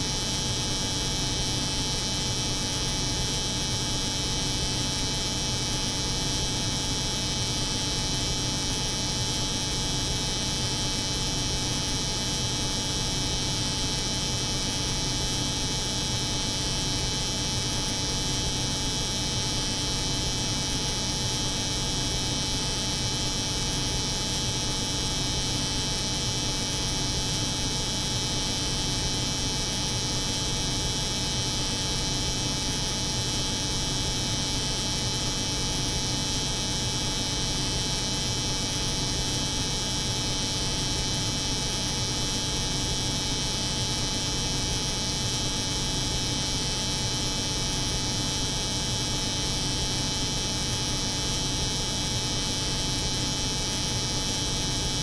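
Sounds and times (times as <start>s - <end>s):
refrigerated room humming: 0.0s - 55.0s.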